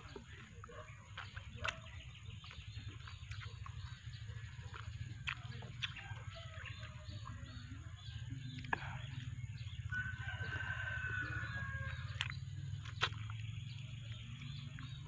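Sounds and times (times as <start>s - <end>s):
birds chirping and calling: 0.0s - 15.0s
clicks of chewing fruit: 0.0s - 15.0s.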